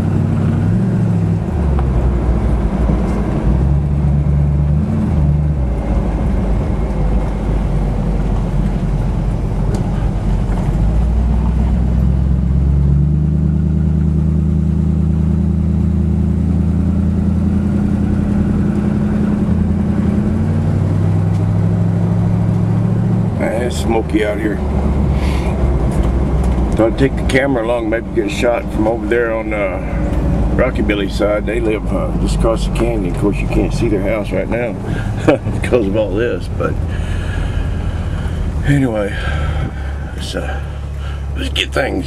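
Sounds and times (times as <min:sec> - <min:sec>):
vehicle engine running while driving: 0:00.0 - 0:42.0.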